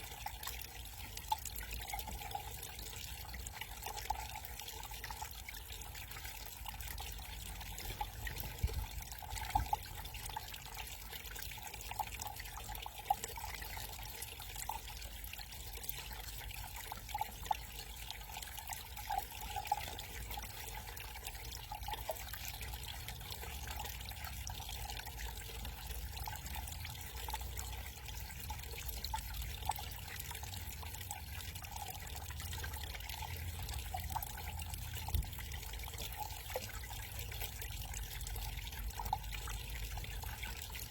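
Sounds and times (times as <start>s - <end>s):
short water drips: 0.0s - 40.9s
water trickling down waterfall: 0.0s - 40.9s.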